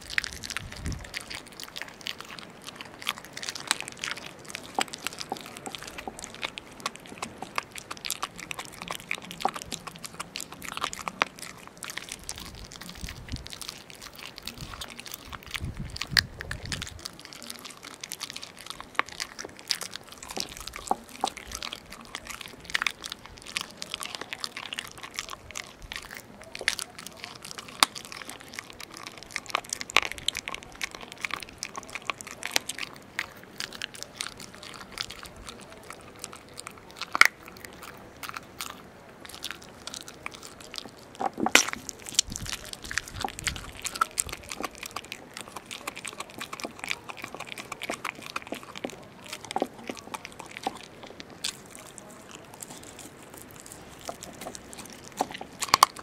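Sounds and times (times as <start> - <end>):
puppy chewing bones: 0.0 - 56.0.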